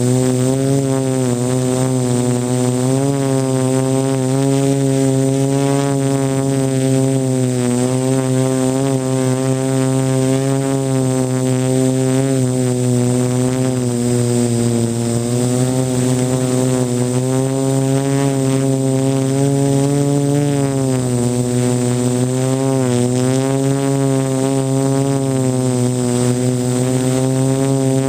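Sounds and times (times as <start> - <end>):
quadcopter propellers buzzing: 0.0 - 28.0.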